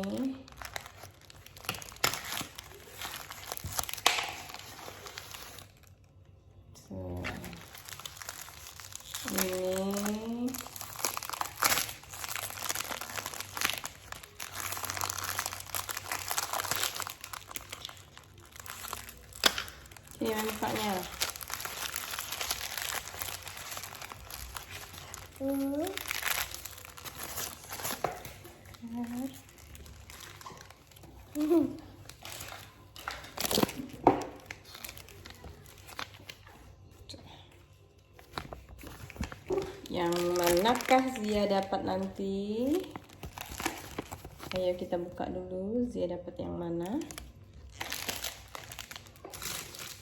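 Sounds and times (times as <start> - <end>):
wrapper crinkling and rustling: 0.0 - 37.2, 38.0 - 45.2, 46.7 - 50.0.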